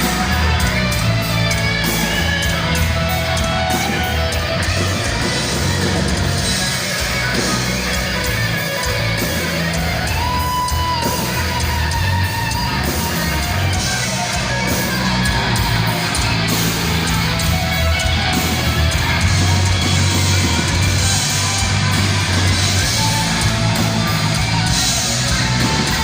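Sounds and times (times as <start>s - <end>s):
heavy metal band playing live: 0.0s - 26.0s.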